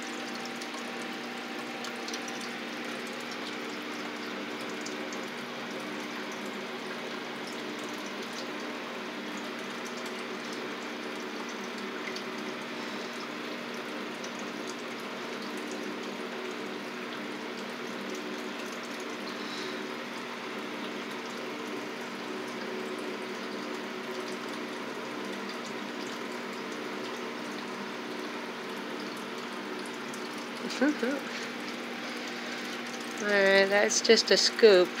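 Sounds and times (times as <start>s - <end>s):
water pump humming: 0.0s - 35.0s
water trickling: 0.0s - 35.0s.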